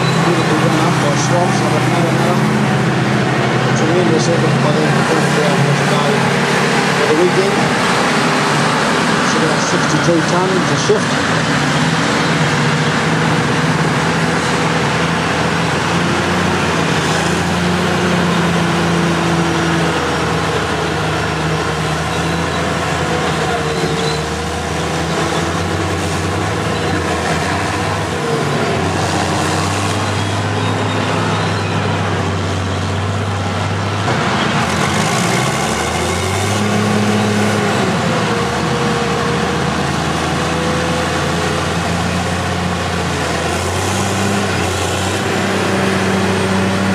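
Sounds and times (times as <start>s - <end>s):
diesel engine of grader: 0.0s - 46.9s
heavy earthmoving machines: 0.0s - 46.9s.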